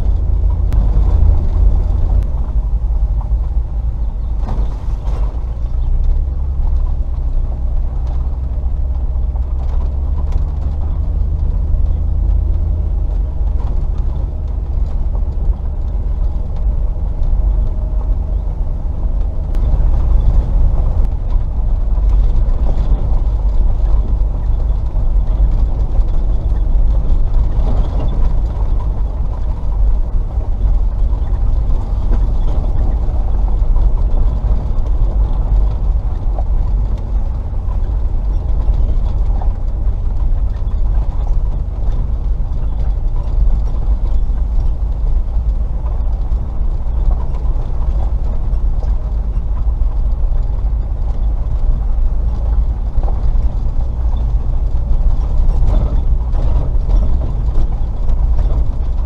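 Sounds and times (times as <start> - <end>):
engine and tyres rumbling: 0.0 - 59.0
vehicle ticks and rattles: 0.0 - 59.0.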